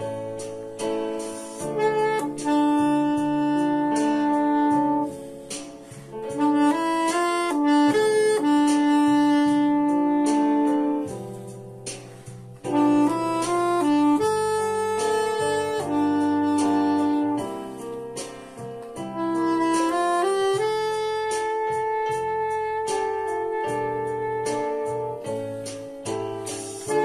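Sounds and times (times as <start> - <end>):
backing track of low chords: 0.0 - 27.0
soprano saxophone slow melody: 0.0 - 27.0.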